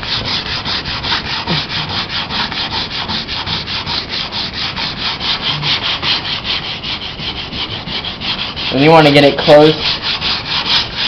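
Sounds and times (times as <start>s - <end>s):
sandpaper rubbing on fiberglass: 0.0s - 11.0s.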